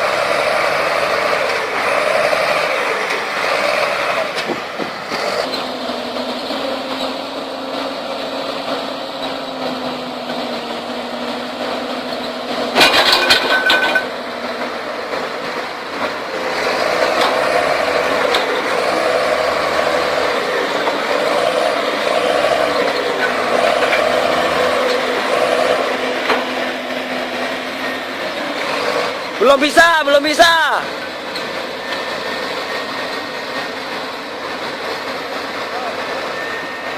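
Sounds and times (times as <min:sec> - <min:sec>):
heavy diesel engines running: 0:00.0 - 0:36.9.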